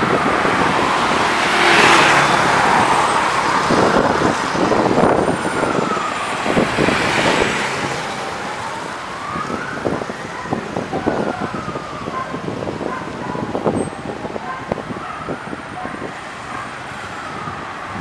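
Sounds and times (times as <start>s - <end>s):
emergency siren wailing: 0.0s - 18.0s
slow road traffic: 0.0s - 18.0s.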